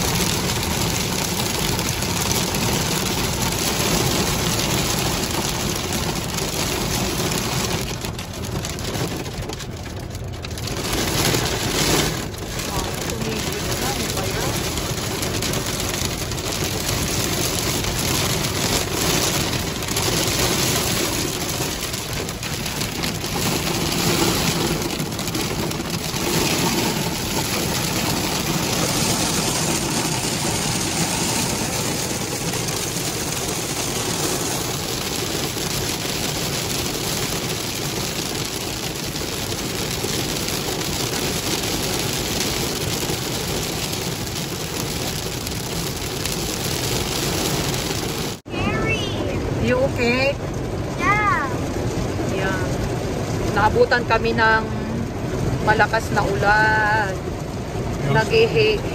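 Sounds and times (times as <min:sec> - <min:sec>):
car road and engine noise: 0:00.0 - 0:58.9
rain and hail on car roof: 0:00.0 - 0:58.9.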